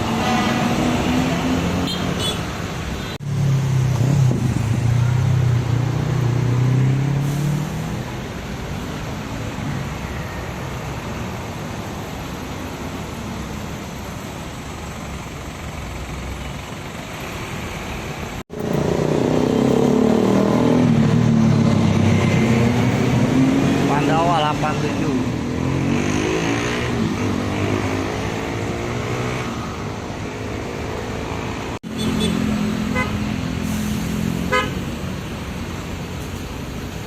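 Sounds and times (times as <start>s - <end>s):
road traffic noise: 0.0s - 37.0s
bus engine passing: 2.5s - 37.0s.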